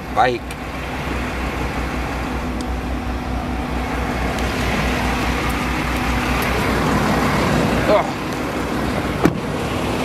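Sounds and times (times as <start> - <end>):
car engine rumble: 0.0 - 10.0
road traffic noise: 0.0 - 10.0.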